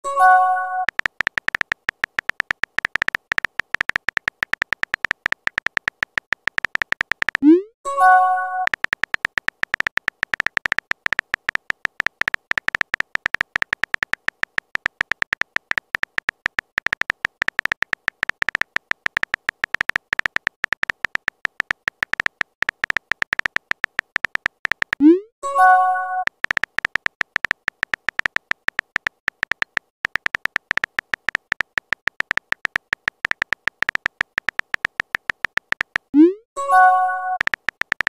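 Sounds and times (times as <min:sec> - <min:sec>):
phone keyboard typing clicks: 0:00.1 - 0:38.0.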